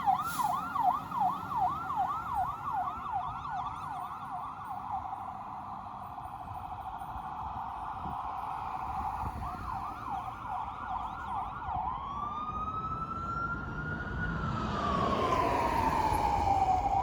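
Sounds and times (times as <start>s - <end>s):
fire engine siren: 0.0s - 17.0s.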